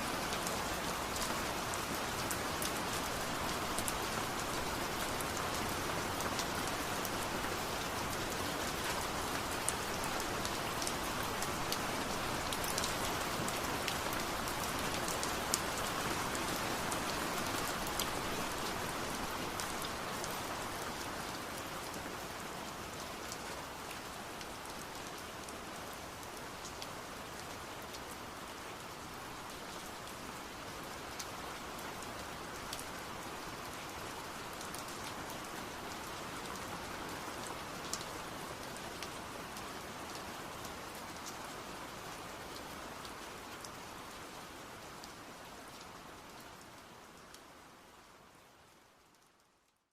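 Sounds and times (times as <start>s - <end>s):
rain pattering: 0.0s - 49.9s.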